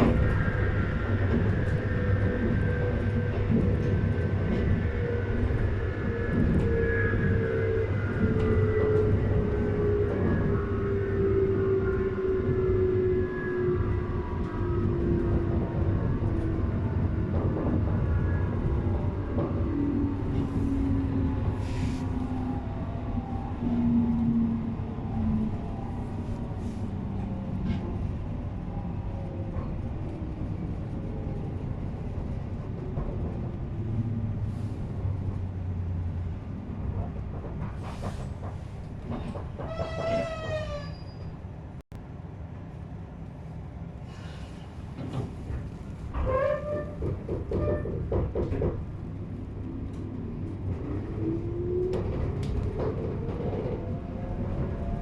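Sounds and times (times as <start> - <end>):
train rail rumble: 0.0 - 55.0.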